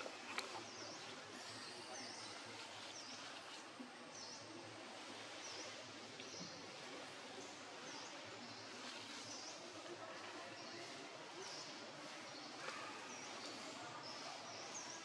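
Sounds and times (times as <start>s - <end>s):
steady forest hiss: 0.0s - 15.0s.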